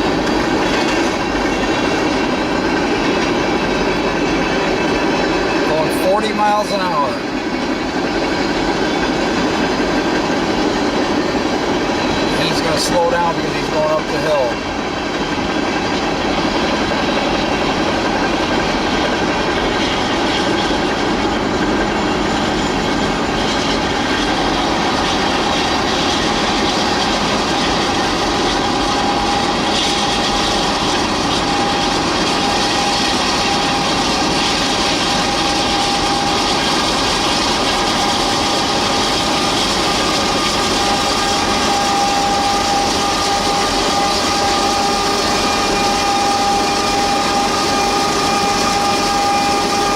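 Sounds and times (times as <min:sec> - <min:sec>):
clickety-clack of rails: 0:00.0 - 0:49.9
steady train whine: 0:00.0 - 0:49.9
train wheels rumbling on rail: 0:00.0 - 0:49.9.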